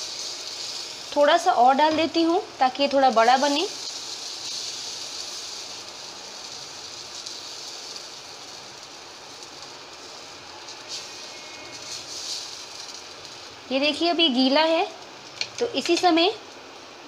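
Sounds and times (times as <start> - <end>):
batter sizzling in oil: 0.0 - 17.0.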